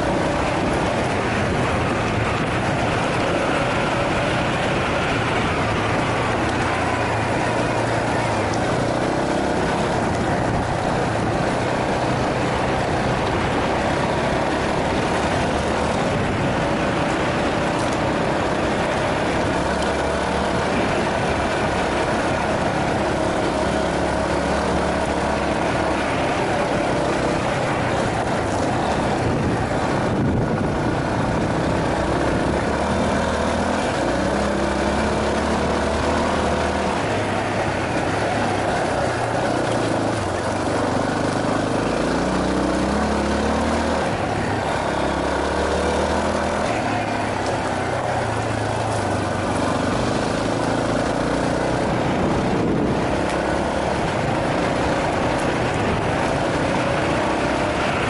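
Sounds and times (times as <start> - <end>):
wind rush on microphone: 0.0 - 42.6, 46.4 - 58.0
motorcycle engine running: 0.0 - 58.0.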